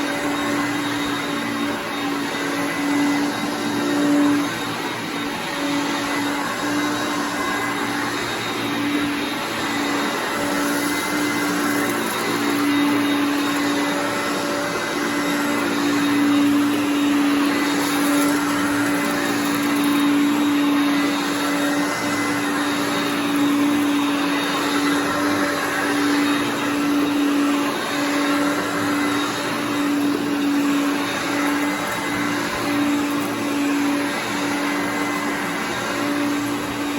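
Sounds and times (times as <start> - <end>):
vacuum cleaner running: 0.0 - 36.9.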